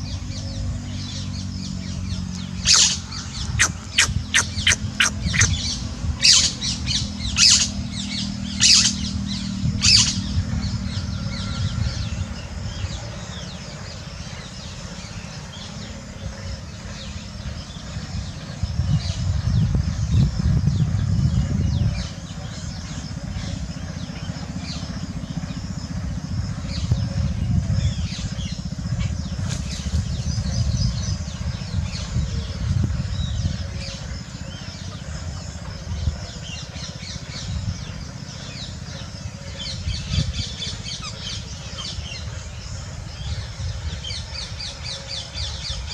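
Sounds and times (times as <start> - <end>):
small birds chirping: 0.0 - 45.9
steady low rumble: 0.0 - 45.9.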